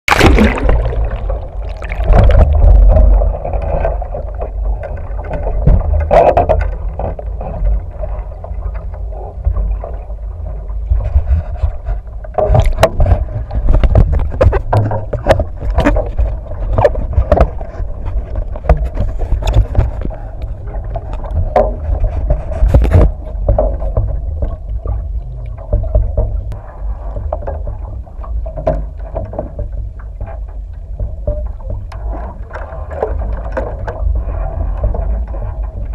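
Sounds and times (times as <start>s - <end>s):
muffled underwater water churning: 0.0s - 35.9s
knocks and clicks from boat hull: 1.8s - 35.9s.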